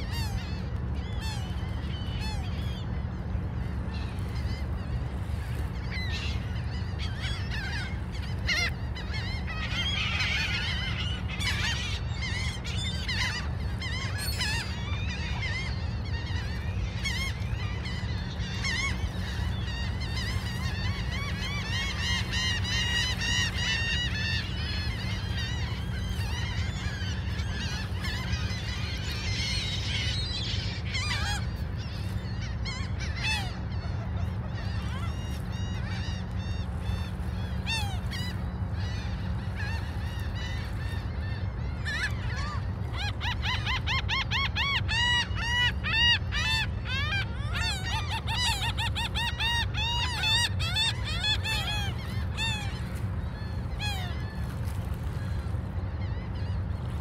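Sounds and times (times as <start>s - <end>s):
gulls squawking: 0.0s - 57.0s.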